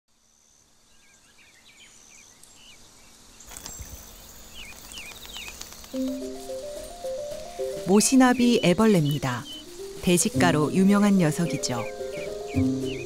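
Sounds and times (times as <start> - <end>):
light hiss: 0.1 - 13.0
small birds chirping: 0.1 - 13.0.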